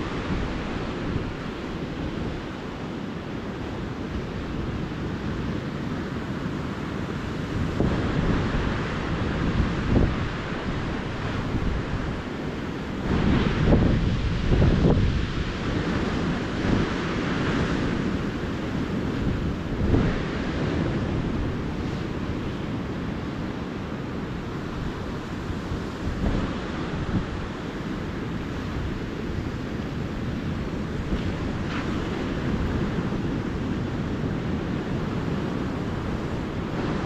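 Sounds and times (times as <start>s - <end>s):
ocean surf washing onto beach: 0.0s - 37.0s
wind buffeting microphone: 0.0s - 37.0s.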